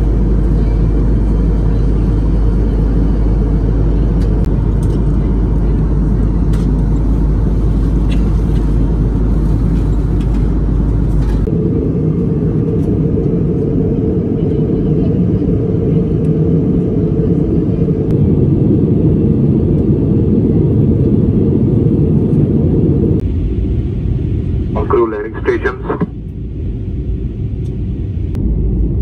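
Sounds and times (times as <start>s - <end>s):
low rumble of moving vehicle: 0.0s - 29.0s.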